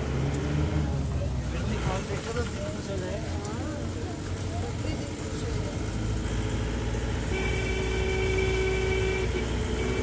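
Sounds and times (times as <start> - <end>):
van engine and road rumble: 0.0 - 10.0.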